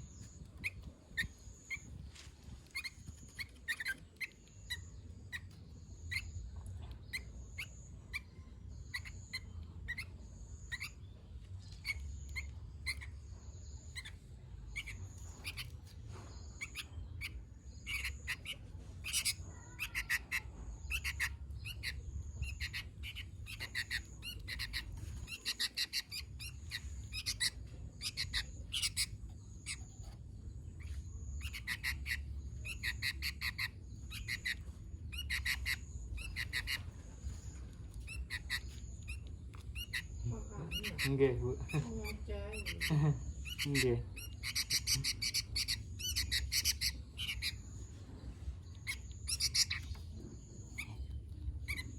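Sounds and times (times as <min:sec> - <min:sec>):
bulbul singing: 0:00.0 - 0:51.9
low steady rumble: 0:00.0 - 0:51.9.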